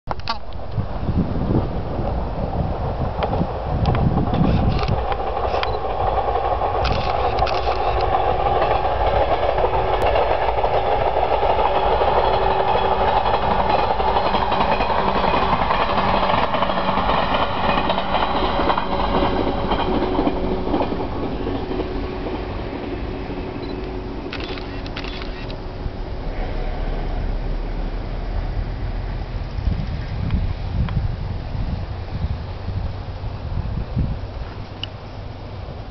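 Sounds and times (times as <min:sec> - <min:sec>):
distant train running past: 0:00.6 - 0:35.9.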